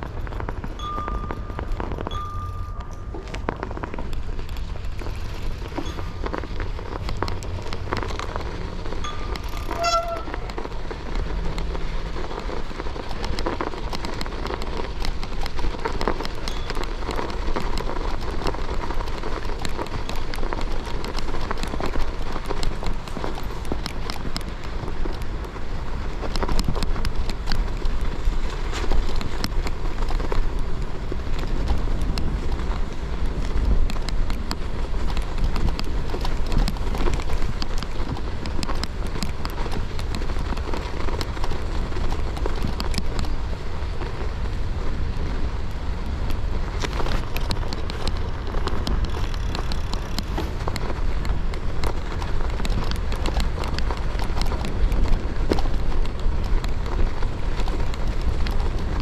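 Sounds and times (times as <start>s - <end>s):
bike tyres crunching on snow: 0.0s - 59.0s
low wind rumble on microphone: 0.0s - 59.0s.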